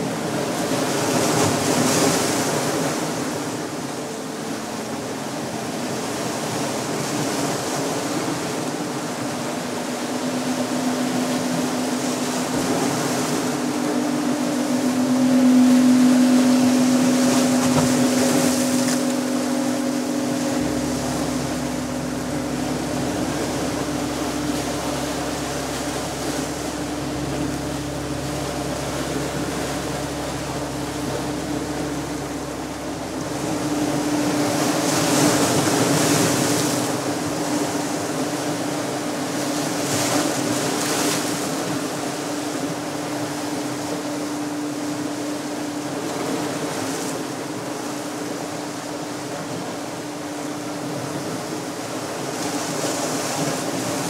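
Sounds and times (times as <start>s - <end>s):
resonating gong humming: 0.0s - 54.0s
surf washing over rocks: 0.0s - 54.0s.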